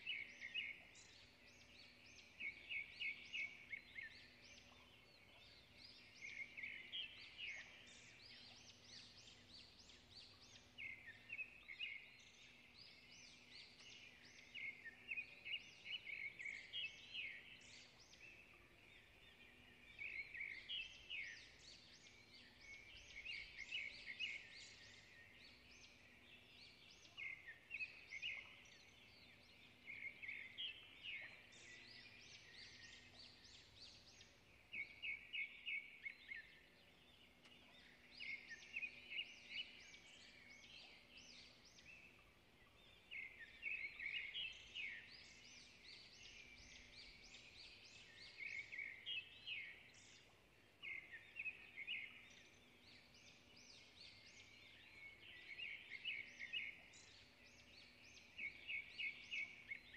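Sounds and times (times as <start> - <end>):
small birds twittering: 0.0 - 59.9.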